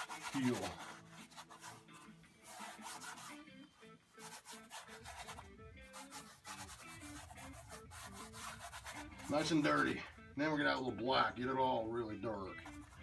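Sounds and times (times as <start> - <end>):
paint scrubbing on canvas: 0.0 - 10.3, 12.4 - 13.0
soft background music: 0.0 - 13.0.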